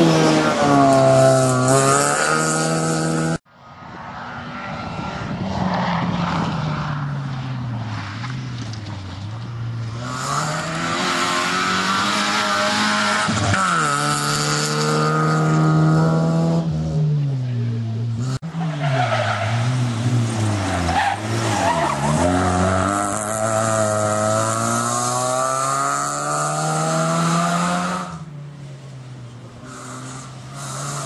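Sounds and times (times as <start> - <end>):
rally car engine at full throttle: 0.0 - 31.0.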